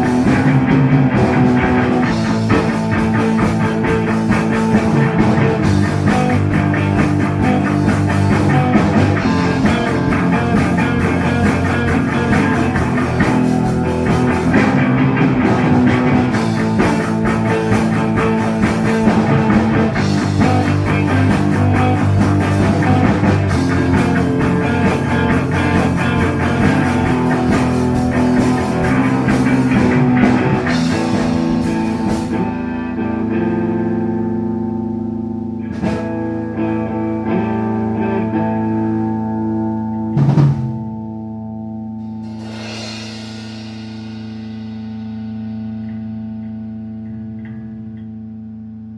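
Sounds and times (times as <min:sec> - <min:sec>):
drum kit: 0:00.0 - 0:48.3
bass guitar: 0:00.0 - 0:48.9
electric guitar: 0:00.0 - 0:48.9.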